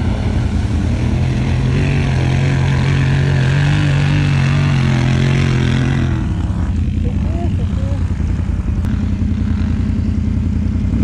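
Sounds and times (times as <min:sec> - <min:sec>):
atv engine revving hard: 0:00.0 - 0:11.0.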